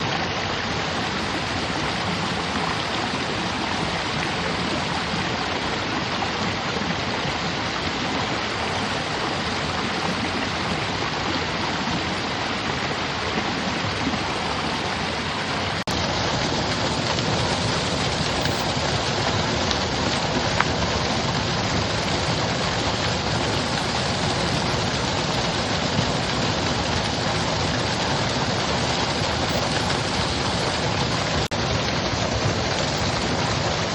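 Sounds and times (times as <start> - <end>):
mountain stream rushing: 0.0 - 33.9.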